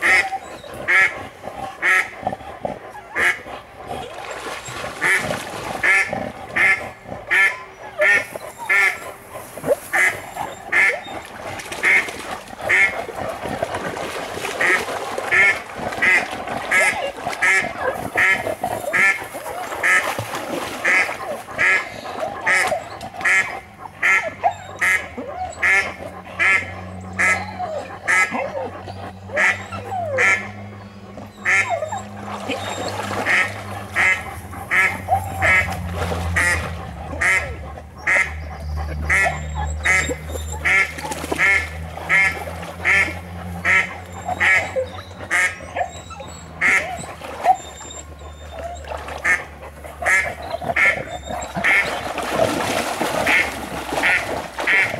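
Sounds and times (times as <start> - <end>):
ducks quacking: 0.0 - 54.9.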